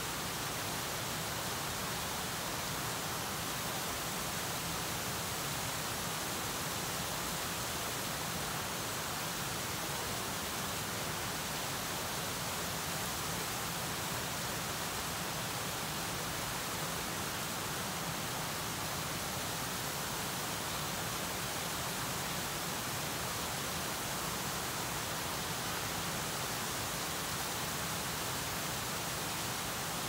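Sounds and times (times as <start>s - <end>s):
small waterfall rushing: 0.0s - 30.0s.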